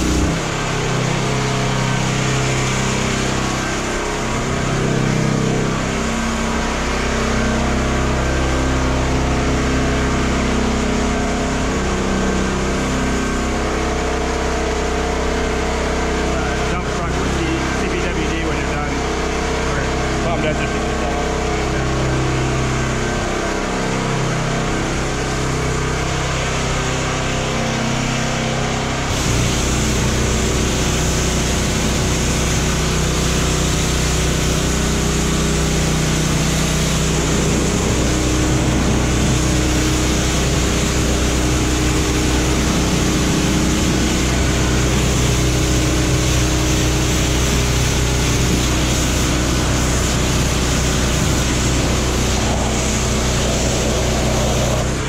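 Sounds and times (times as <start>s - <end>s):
high-pressure water jet hissing: 0.0s - 55.0s
pressure washer humming: 0.0s - 55.0s.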